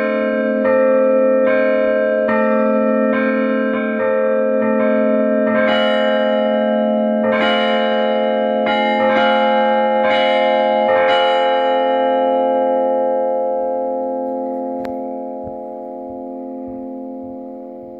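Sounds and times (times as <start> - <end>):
church bells ringing: 0.0 - 17.9
large bell humming: 0.0 - 17.9.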